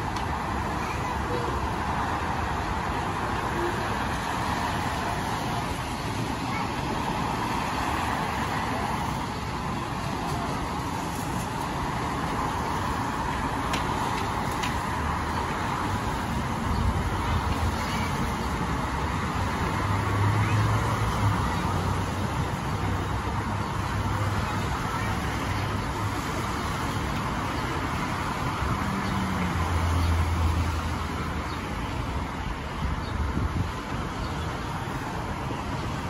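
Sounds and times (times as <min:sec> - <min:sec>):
heavy vehicle engine hum: 0:00.0 - 0:36.0
tyres hissing on wet road: 0:00.0 - 0:36.0.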